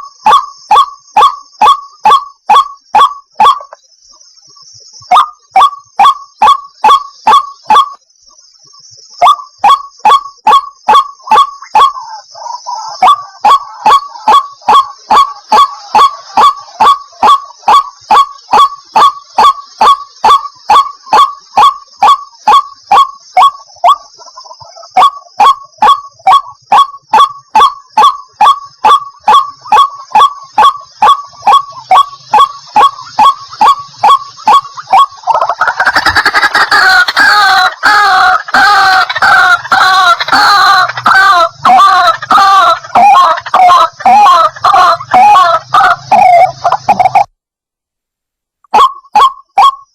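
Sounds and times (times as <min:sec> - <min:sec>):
waterhen honking calls: 0:00.3 - 0:03.8, 0:09.2 - 0:47.2, 0:48.8 - 0:49.8.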